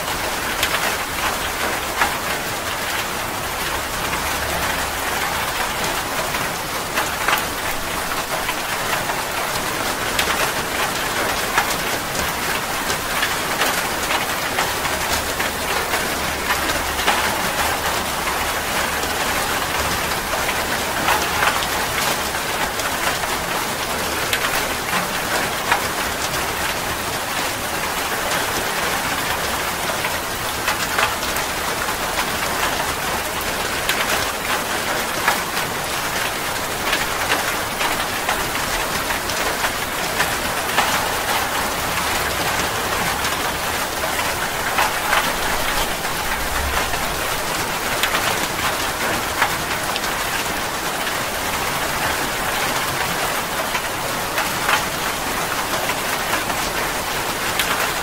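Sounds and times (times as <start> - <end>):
heavy rain: 0.0 - 58.0
raindrops ticking close by: 0.0 - 58.0.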